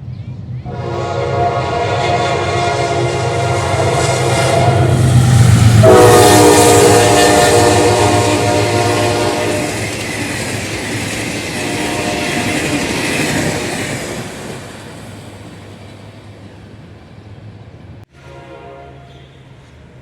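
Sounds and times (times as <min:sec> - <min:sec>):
passenger train rolling past: 0:00.0 - 0:20.0.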